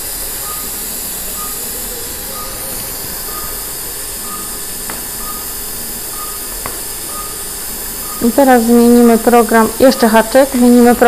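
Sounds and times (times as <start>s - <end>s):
patient monitor beeps: 0.0s - 11.0s
steady equipment hiss: 0.0s - 11.0s.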